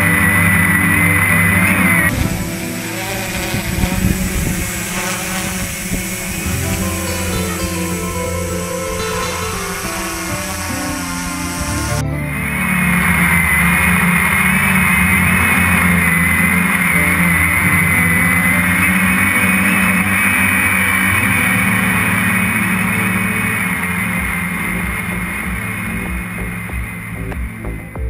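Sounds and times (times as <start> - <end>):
airy hiss: 0.0 - 27.3
drone motors whining: 0.0 - 28.0.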